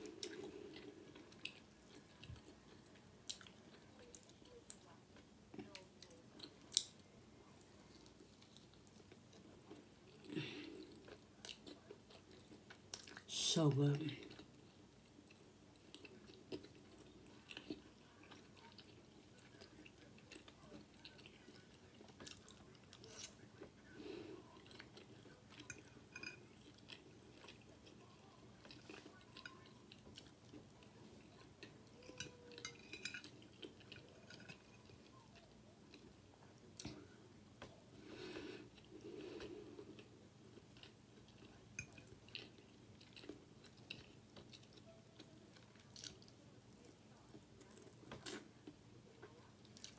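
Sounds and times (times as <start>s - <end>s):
faint chewing of soft food: 0.0s - 49.9s.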